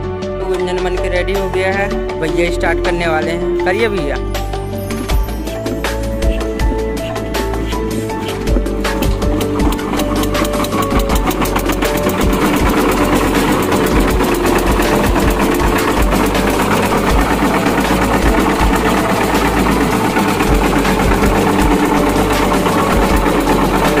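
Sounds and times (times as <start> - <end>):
diesel engine chugging: 2.2 - 24.0.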